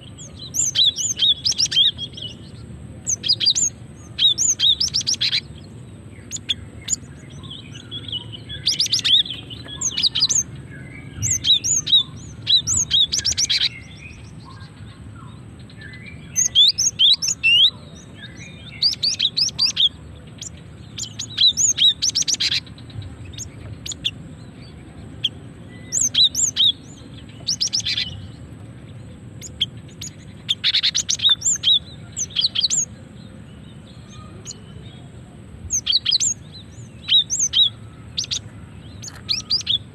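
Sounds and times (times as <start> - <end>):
bird chirping high calls: 0.0 - 39.9.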